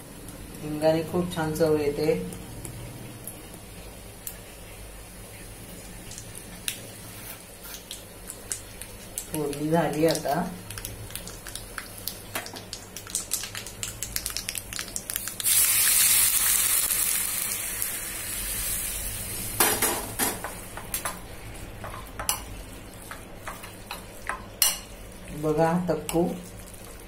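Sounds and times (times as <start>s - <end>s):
hot oil sizzling: 0.0s - 27.0s.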